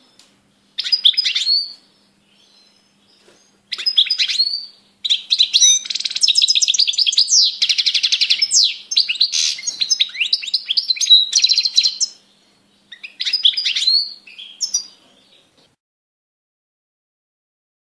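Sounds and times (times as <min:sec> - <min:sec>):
goldfinch singing: 0:00.6 - 0:15.5.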